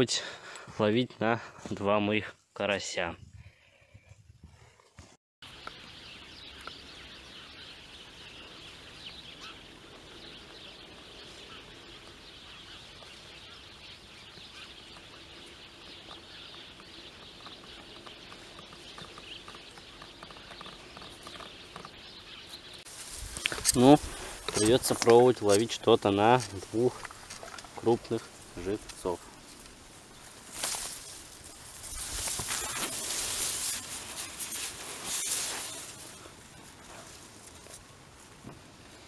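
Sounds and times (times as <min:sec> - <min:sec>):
distant birds calling: 0:05.4 - 0:37.8.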